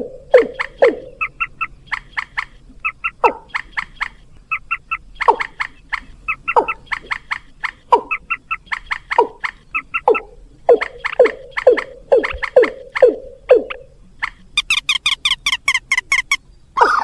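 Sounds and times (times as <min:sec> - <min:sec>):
sharp clicking bird notes: 0:00.3 - 0:16.4.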